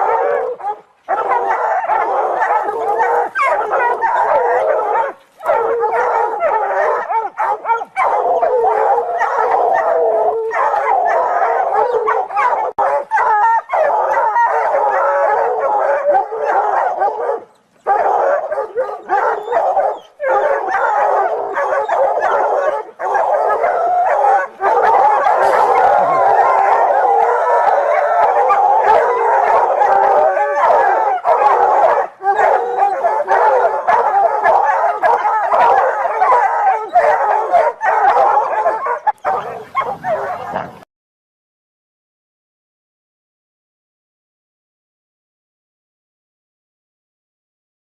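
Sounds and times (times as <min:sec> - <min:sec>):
dogs barking and howling: 0:00.0 - 0:40.8.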